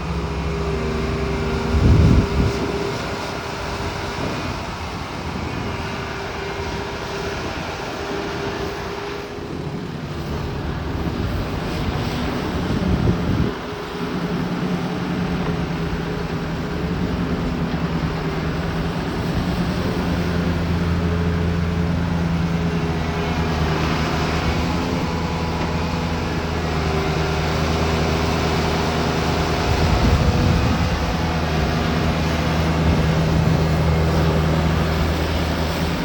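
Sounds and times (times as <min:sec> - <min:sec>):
deeper engine note: 0:00.0 - 0:36.0
heavy machinery diesel engines: 0:00.0 - 0:36.0.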